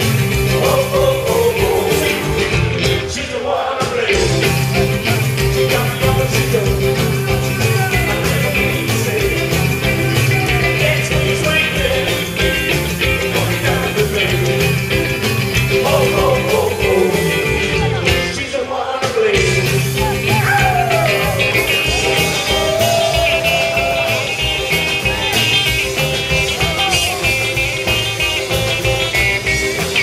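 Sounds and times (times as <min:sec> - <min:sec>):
man singing: 0:00.0 - 0:24.2
rockabilly band playing: 0:00.0 - 0:30.0.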